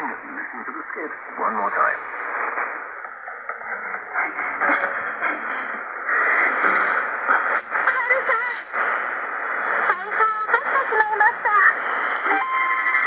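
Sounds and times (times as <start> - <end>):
faint voices over radio: 0.0 - 12.5
radio static hiss: 0.0 - 13.0.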